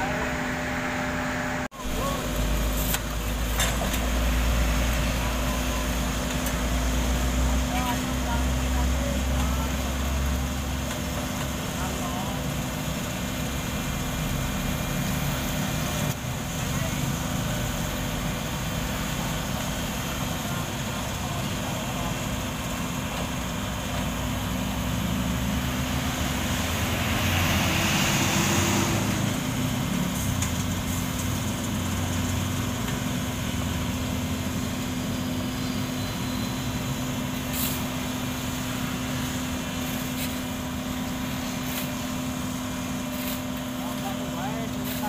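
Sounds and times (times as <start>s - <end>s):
diesel engine humming: 0.0s - 45.0s.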